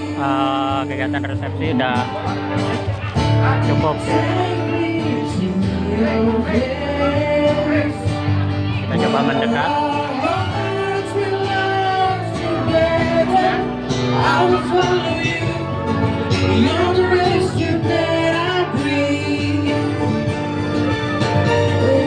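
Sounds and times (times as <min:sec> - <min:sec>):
acoustic guitar: 0:00.0 - 0:22.0
person singing: 0:03.8 - 0:22.0.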